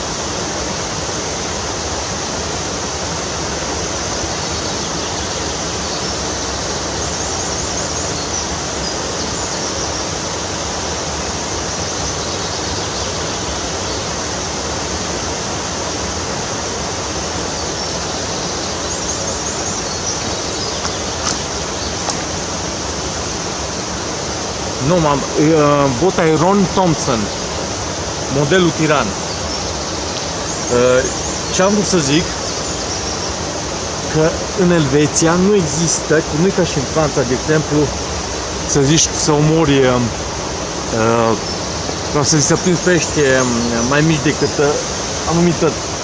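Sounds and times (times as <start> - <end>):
stream rushing over waterfall: 0.0 - 46.0.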